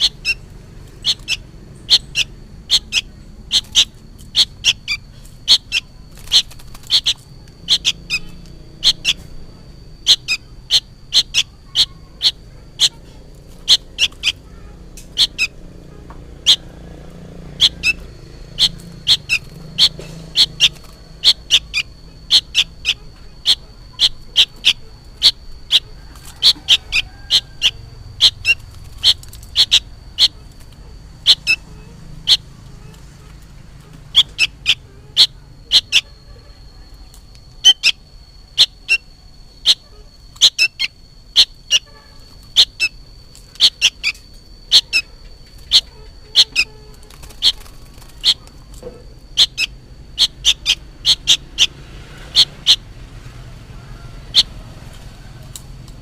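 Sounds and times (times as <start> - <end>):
bulbul short sharp calls: 0.0 - 9.4, 10.0 - 16.8, 17.4 - 52.8.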